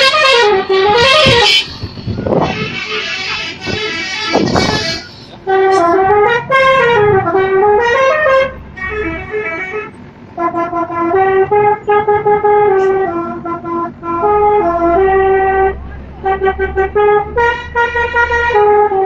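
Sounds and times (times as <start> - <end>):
multi-tone horn playing melody: 0.0 - 19.0.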